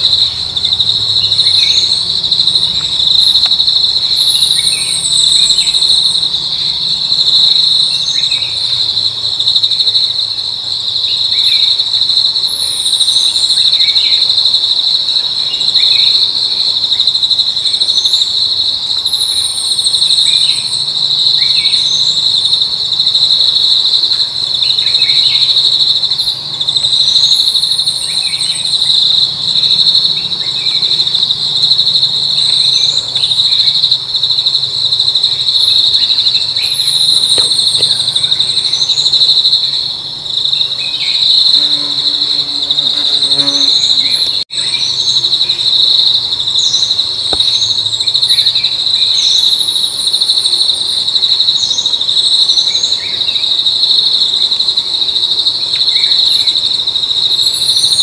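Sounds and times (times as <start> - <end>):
insects droning chorus: 0.0 - 58.0.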